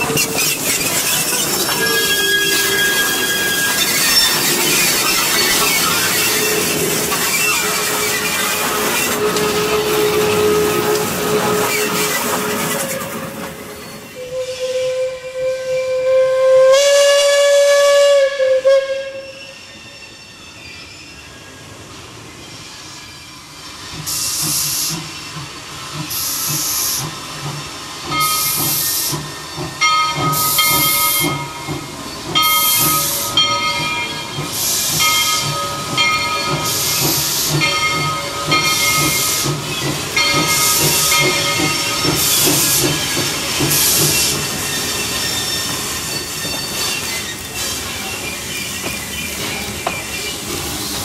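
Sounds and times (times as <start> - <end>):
steam locomotive chuffing: 0.0 - 19.9, 22.7 - 51.0.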